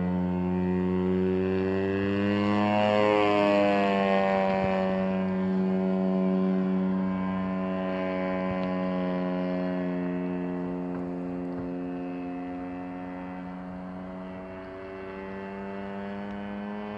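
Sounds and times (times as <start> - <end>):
model plane engine droning: 0.0 - 16.9.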